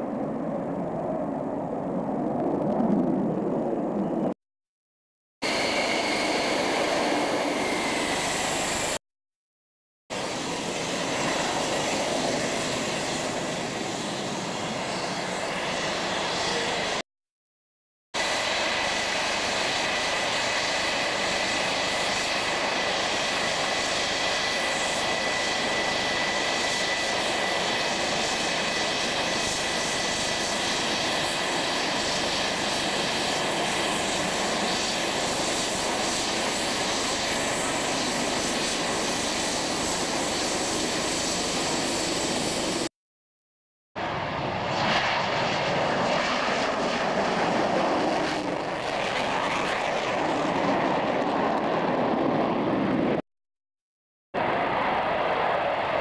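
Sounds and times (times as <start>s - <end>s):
jet engine roar: 0.0s - 4.4s, 5.4s - 9.0s, 10.1s - 17.0s, 18.2s - 42.9s, 44.0s - 53.2s, 54.4s - 56.0s
jet engine whine: 0.0s - 4.4s, 5.4s - 9.0s, 10.1s - 17.0s, 18.2s - 42.9s, 44.0s - 53.2s, 54.4s - 56.0s.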